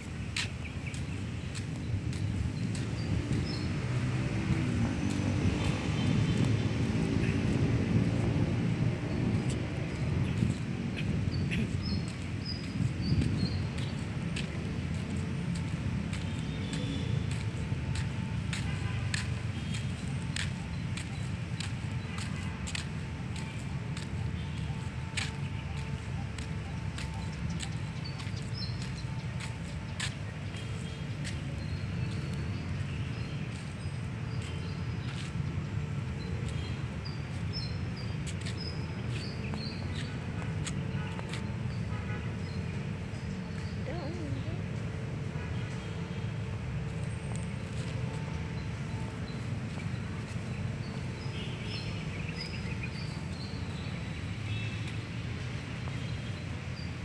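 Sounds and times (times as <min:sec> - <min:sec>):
low outdoor rumble: 0:00.0 - 0:51.6
footsteps on pavement: 0:00.0 - 0:57.0.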